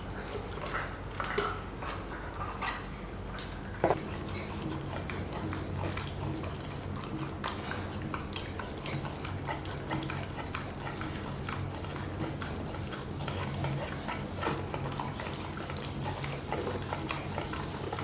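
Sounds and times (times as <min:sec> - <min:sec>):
puppy licking and chewing: 0:00.1 - 0:18.0.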